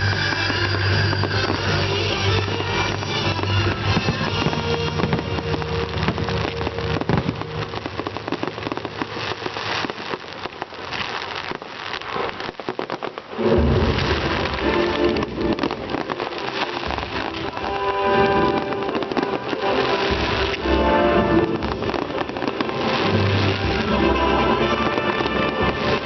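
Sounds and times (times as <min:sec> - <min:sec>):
music soundtrack: 0:00.0 - 0:09.1, 0:13.3 - 0:26.0
firework crackling: 0:00.0 - 0:26.0.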